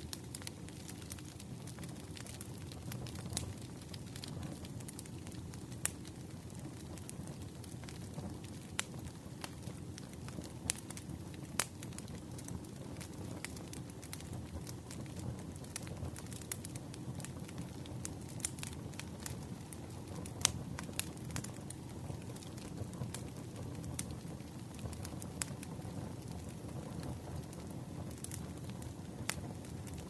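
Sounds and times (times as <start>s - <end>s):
low rumble of flames: 0.0s - 30.0s
campfire pops and snaps: 0.1s - 30.0s.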